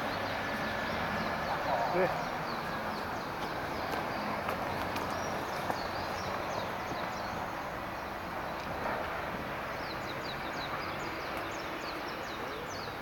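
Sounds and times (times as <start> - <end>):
small birds chirping: 0.0 - 8.8, 9.5 - 13.0
outdoor rushing noise: 0.0 - 12.7.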